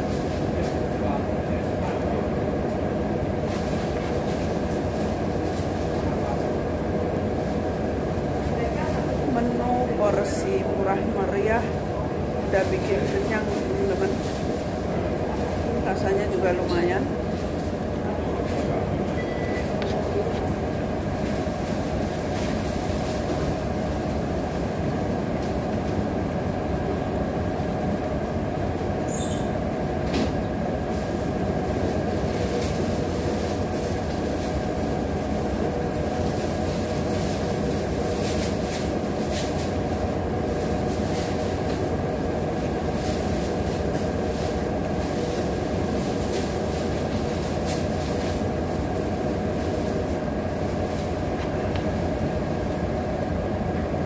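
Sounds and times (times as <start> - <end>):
machinery rumble and hiss: 0.0 - 54.0.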